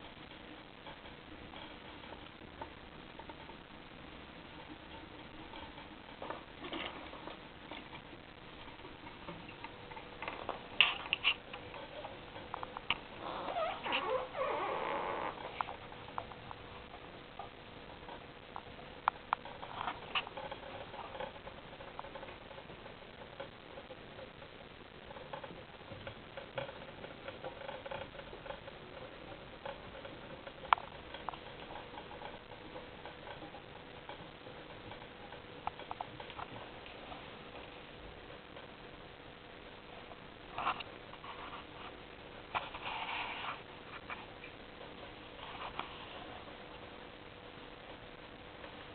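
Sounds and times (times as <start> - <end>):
hamsters crunching insects: 0.0 - 39.2
faint steady hum: 0.0 - 48.9.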